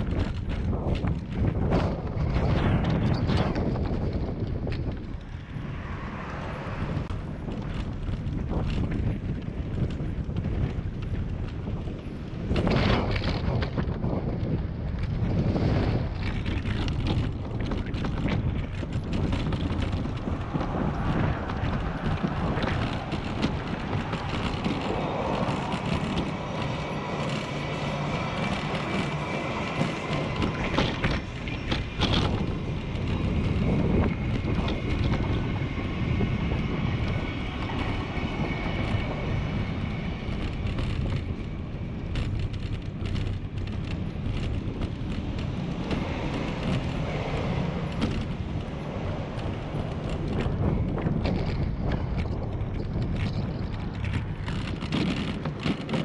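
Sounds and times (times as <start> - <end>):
bicycle rolling over brick pavers: 0.0 - 56.0.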